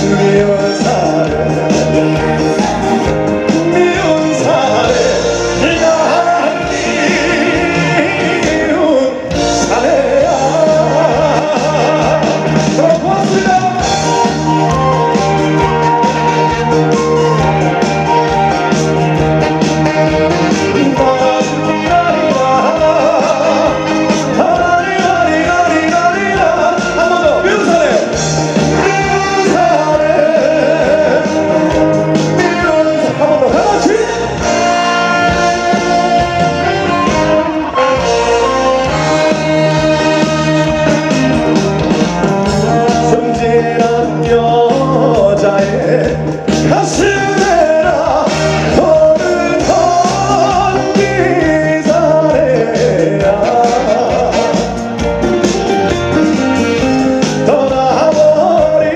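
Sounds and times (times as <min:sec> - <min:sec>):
band playing: 0:00.0 - 0:58.9
man singing: 0:00.0 - 0:58.9.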